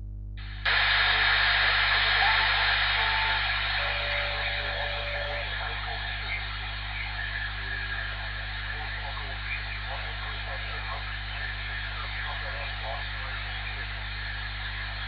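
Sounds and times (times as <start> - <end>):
steady mains hum: 0.0 - 15.0
radio static hiss: 0.4 - 15.0
weak distant voice on radio: 0.4 - 15.0.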